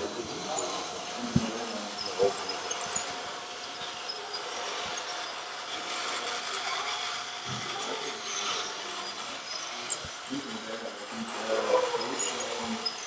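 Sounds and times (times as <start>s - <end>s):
small electric motors whirring: 0.0s - 13.0s.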